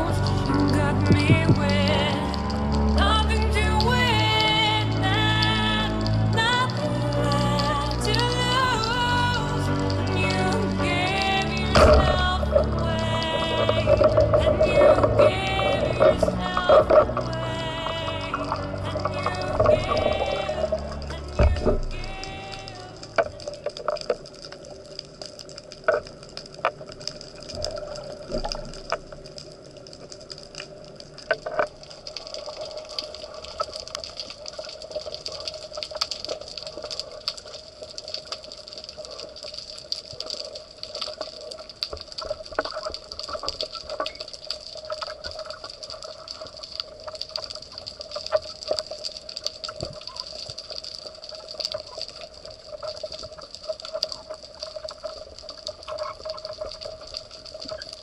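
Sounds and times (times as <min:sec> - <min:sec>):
sharp clicks and crackles: 0:00.0 - 0:58.0.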